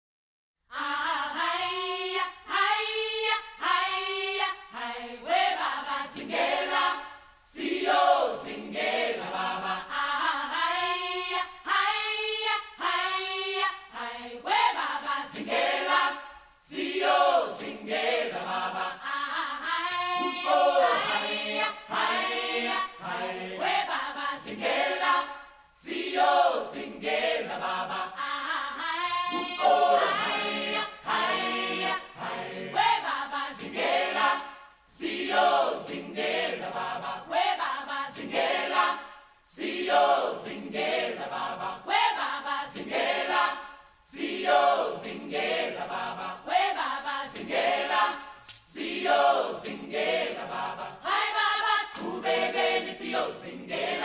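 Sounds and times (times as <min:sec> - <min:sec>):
choir chanting: 0:00.7 - 0:54.0.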